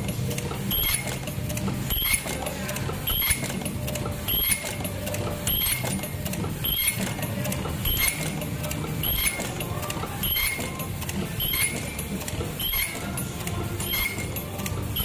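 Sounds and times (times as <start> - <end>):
machine clacking: 0.0 - 15.0
machine squealing: 0.0 - 15.0
steady mechanical hum: 0.0 - 15.0.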